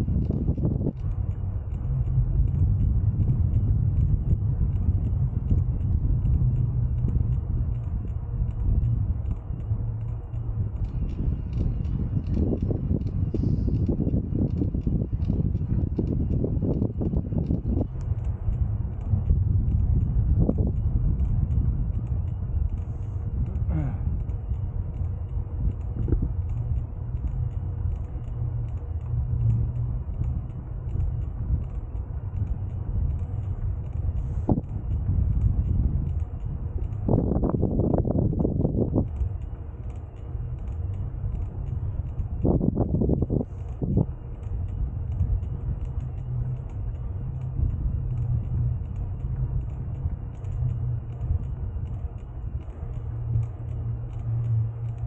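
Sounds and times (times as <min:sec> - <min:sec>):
bicycle rumble on path: 0:00.0 - 0:55.0
faint clicks: 0:00.0 - 0:55.0
faint light ticks: 0:00.0 - 0:55.0.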